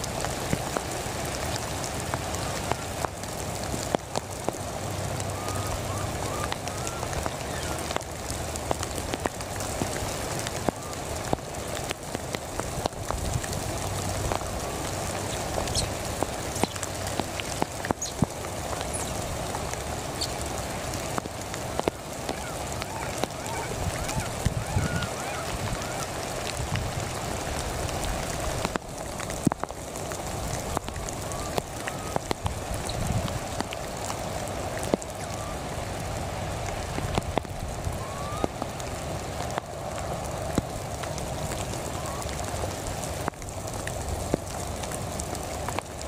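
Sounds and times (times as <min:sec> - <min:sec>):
raindrops ticking sharply: 0:00.0 - 0:46.0
steady rain falling: 0:00.0 - 0:46.0.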